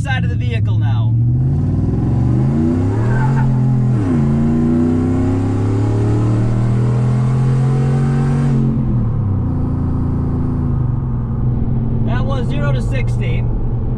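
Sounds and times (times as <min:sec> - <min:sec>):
truck engine accelerating: 0:00.0 - 0:13.9.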